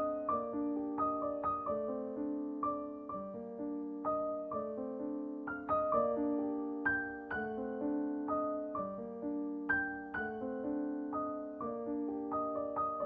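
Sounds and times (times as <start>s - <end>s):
slow gentle piano melody: 0.0s - 13.0s.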